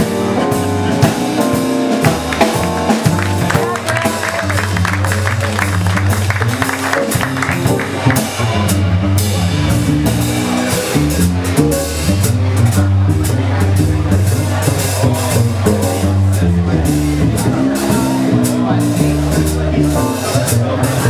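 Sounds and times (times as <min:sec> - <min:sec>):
bass: 0:00.0 - 0:21.0
drum kit beat: 0:00.0 - 0:21.0
guitar: 0:00.0 - 0:21.0.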